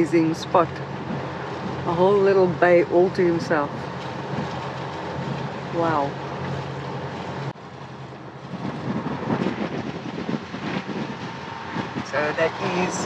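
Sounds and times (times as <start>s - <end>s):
diesel boat engine droning: 0.0s - 13.0s
wind and water rushing: 0.0s - 13.0s.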